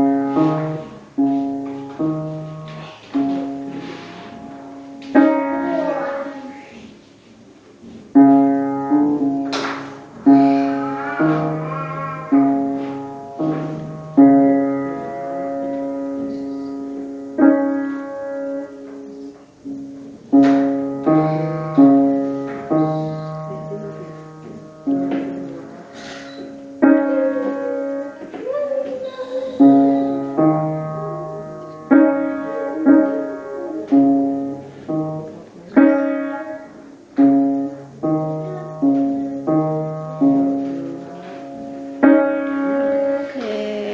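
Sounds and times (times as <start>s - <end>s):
slow piano chords: 0.0s - 43.9s.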